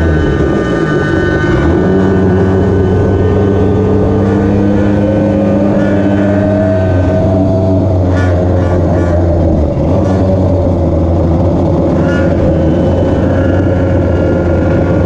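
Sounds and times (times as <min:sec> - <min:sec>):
two-stroke scooter engine: 0:00.0 - 0:15.0.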